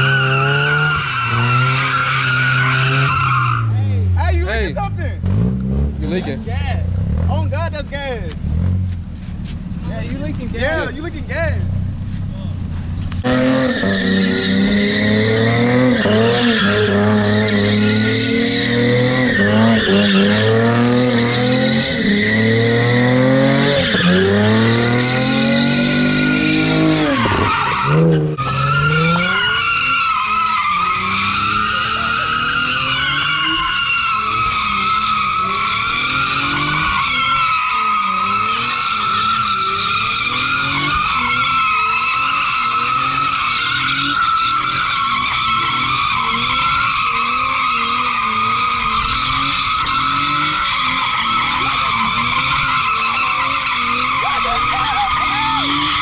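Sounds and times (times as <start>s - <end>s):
tyres squealing: 0.0s - 4.7s, 9.0s - 56.0s
car engine revving: 0.0s - 56.0s.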